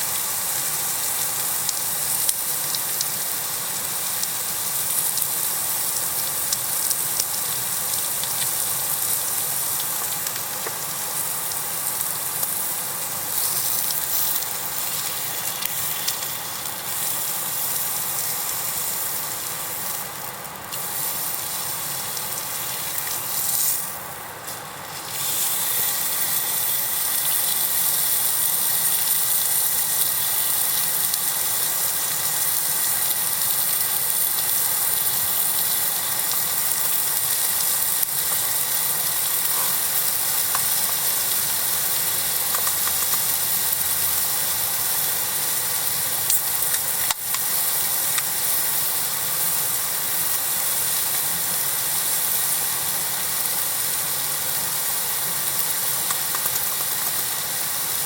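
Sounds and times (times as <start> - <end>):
food sizzling on a griddle: 0.0 - 58.0.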